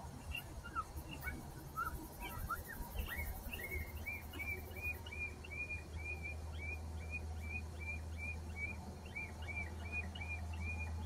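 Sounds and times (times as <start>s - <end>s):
low steady hum: 0.0s - 11.0s
high chirping calls: 0.2s - 11.0s.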